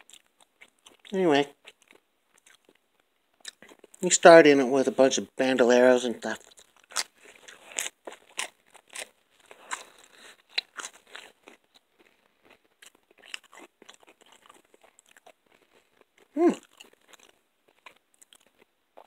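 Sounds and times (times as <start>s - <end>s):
person chewing crunchy food: 0.0s - 4.1s, 6.3s - 19.0s.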